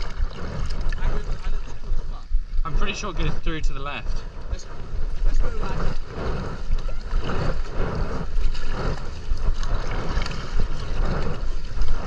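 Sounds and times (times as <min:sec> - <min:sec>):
paddle strokes splashing water: 0:00.0 - 0:02.6, 0:03.5 - 0:12.0
wind buffeting microphone: 0:00.0 - 0:12.0.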